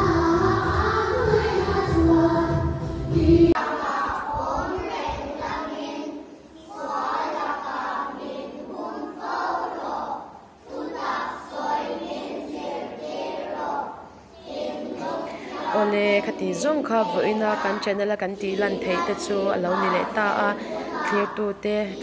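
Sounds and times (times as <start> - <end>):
voices reciting a prayer: 0.0 - 2.6, 3.2 - 22.0
children singing with music: 0.0 - 22.0.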